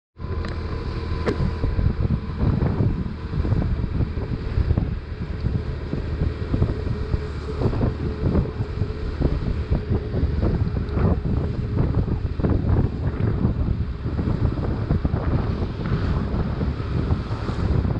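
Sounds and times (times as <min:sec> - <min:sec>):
motorcycle engine running: 0:00.2 - 0:17.9
wind buffeting microphone: 0:00.2 - 0:17.9.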